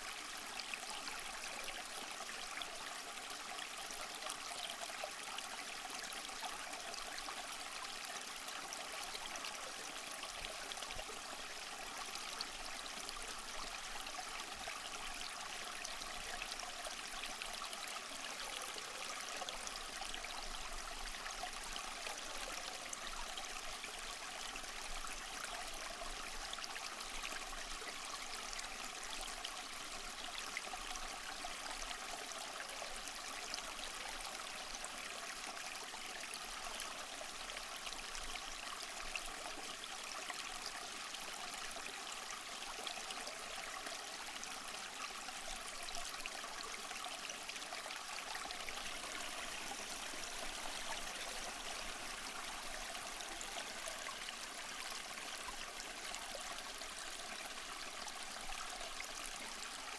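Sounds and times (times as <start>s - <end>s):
small waterfall over rocks: 0.0s - 59.9s.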